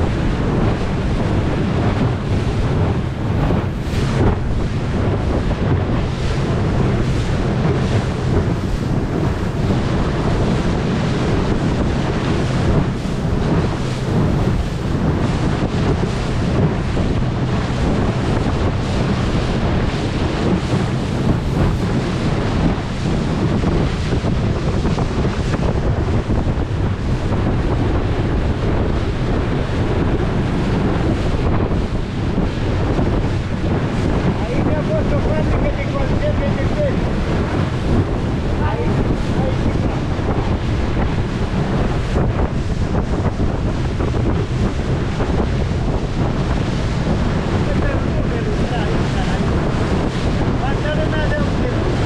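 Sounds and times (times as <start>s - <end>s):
boat engine running: 0.0s - 52.0s
rushing water: 0.0s - 52.0s
wind buffeting microphone: 0.0s - 52.0s.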